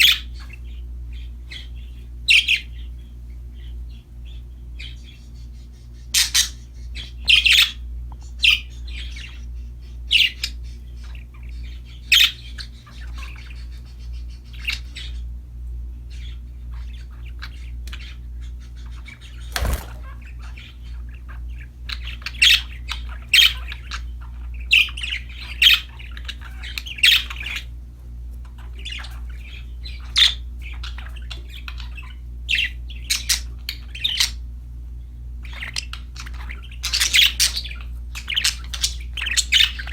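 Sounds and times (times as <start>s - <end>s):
budgerigars chirping and squawking: 0.0s - 39.9s
steady low hum: 0.0s - 39.9s.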